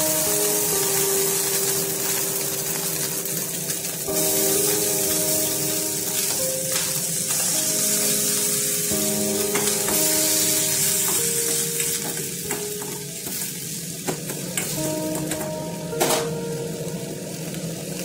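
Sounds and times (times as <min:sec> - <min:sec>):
onions sizzling in hot oil: 0:00.0 - 0:18.0
soft instrumental music: 0:00.0 - 0:18.0.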